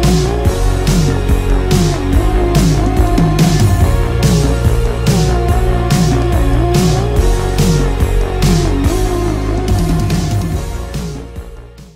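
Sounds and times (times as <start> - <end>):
instrumental background music: 0.0 - 11.9.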